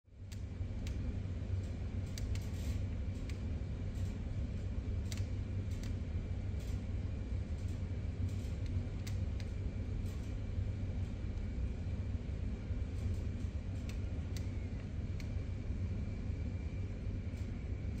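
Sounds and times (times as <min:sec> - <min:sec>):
low room rumble: 0:00.1 - 0:18.0.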